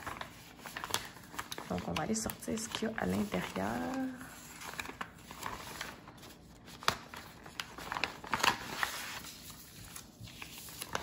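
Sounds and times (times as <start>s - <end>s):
paper sheets rustling: 0.0s - 11.0s
plastic packaging crinkling: 0.0s - 11.0s.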